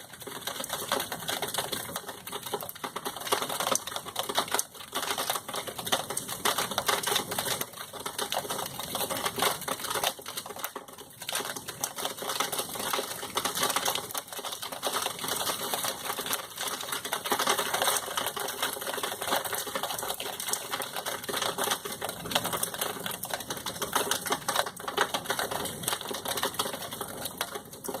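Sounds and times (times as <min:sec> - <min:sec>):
rain on a hard surface: 0:00.0 - 0:28.0.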